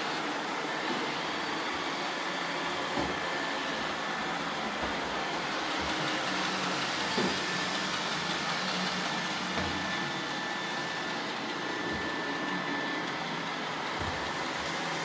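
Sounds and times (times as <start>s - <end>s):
robot vacuums whirring: 0.0s - 15.0s.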